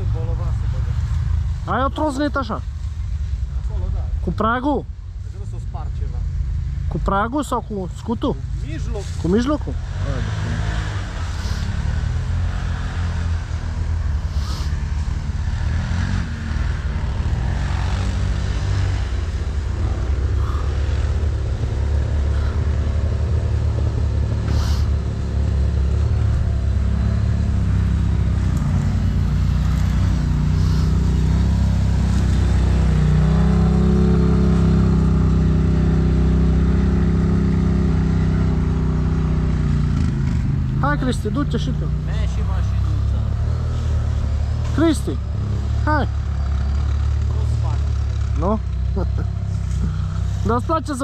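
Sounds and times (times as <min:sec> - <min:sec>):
off-road vehicle engine rumbling: 0:00.0 - 0:51.0.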